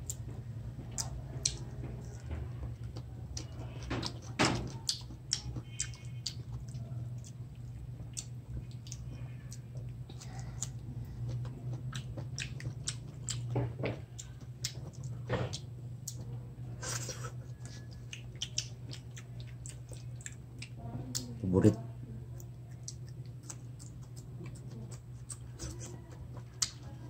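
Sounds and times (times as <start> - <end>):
person chewing and eating: 0.0 - 27.0
steady low hum: 0.0 - 27.0.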